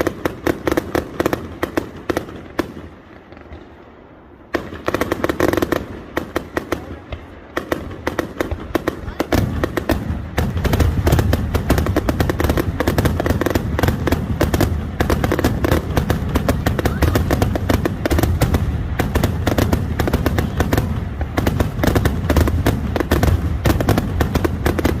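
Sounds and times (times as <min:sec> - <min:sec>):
crackling fireworks reports: 0:00.0 - 0:25.0.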